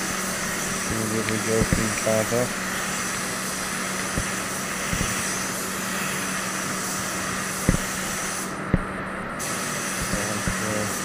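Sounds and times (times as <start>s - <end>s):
spray gun hissing: 0.0s - 11.0s
steady low hum: 0.0s - 11.0s.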